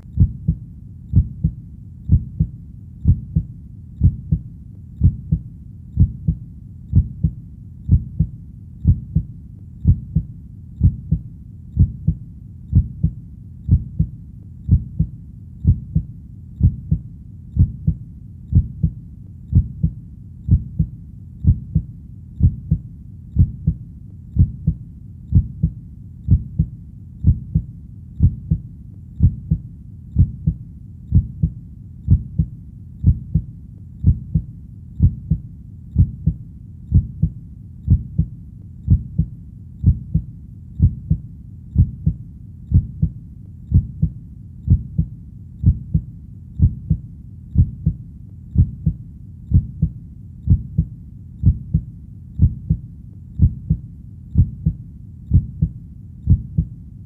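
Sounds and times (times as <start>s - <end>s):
heartbeat thumps: 0.0s - 56.8s.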